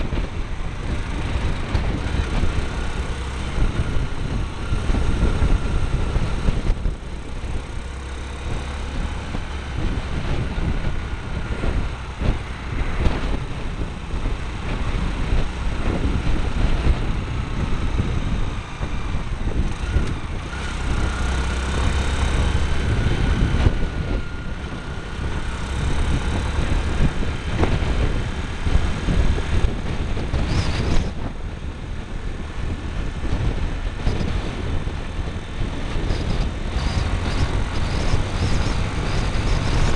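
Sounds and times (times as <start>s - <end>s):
motorbike engine rumble: 0.0s - 39.9s
wind noise: 0.0s - 39.9s.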